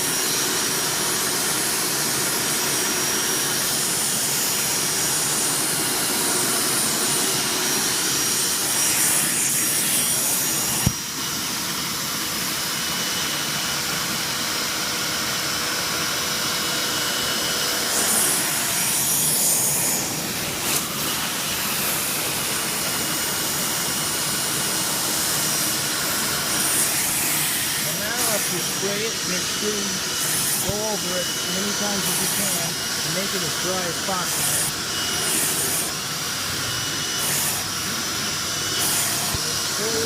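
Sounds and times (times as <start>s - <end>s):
carpet cleaner whining hiss: 0.0s - 40.0s.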